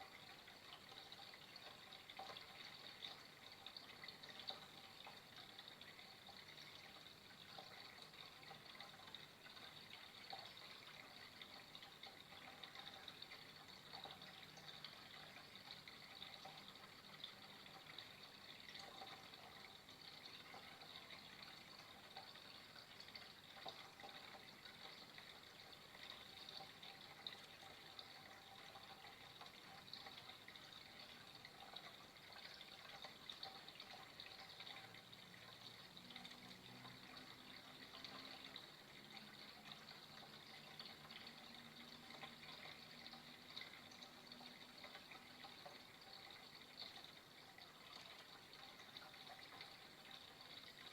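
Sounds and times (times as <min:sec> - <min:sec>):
faint flowing water: 0:00.0 - 0:50.9.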